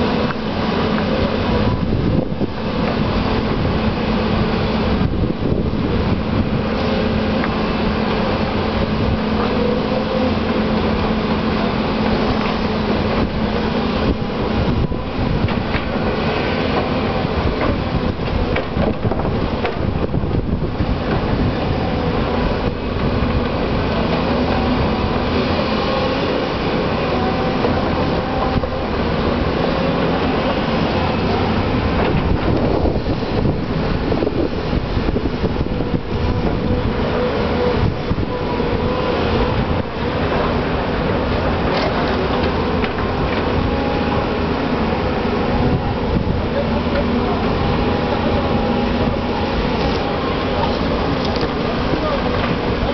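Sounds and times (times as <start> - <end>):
excavator diesel engines under load: 0.0 - 52.9
steady engine hum: 0.0 - 52.9.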